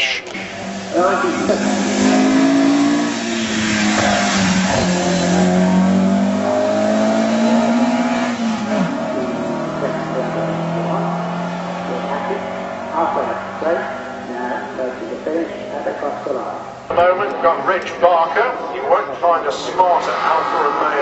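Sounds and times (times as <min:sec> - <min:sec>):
car engine accelerating hard: 0:00.3 - 0:21.0.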